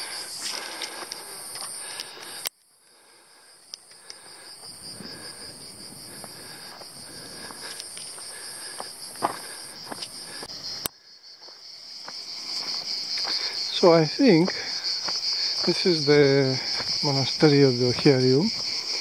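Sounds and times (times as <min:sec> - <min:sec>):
footsteps on dirt path: 0:00.0 - 0:02.4, 0:03.8 - 0:19.0
higher insect buzz: 0:00.0 - 0:19.0
insects buzzing shrilly: 0:00.0 - 0:19.0.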